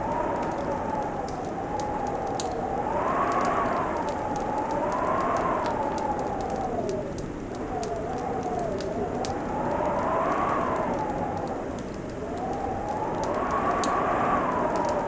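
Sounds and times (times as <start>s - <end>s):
howling wind: 0.0s - 15.0s
wood fire crackling: 0.0s - 15.0s.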